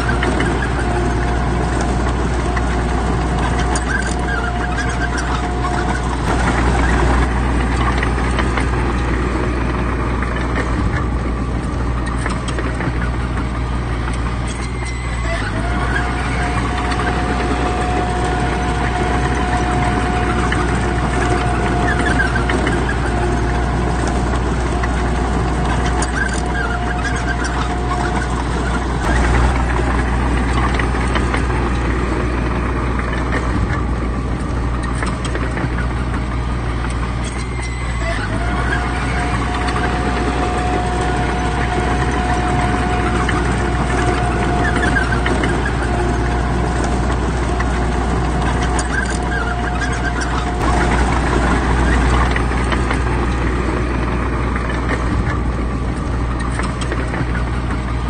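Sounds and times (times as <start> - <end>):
high whine: 0.0 - 36.3, 36.9 - 58.0
heavy machine diesel engines: 0.0 - 58.0.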